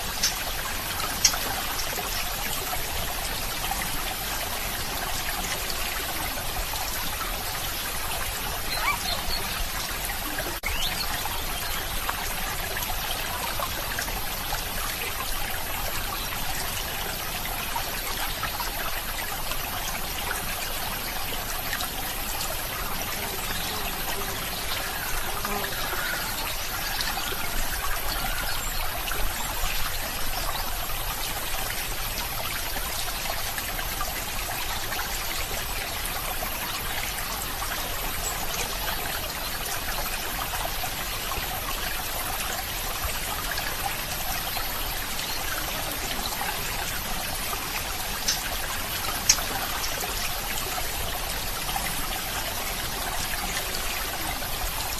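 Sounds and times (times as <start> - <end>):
stream trickling: 0.0 - 54.9.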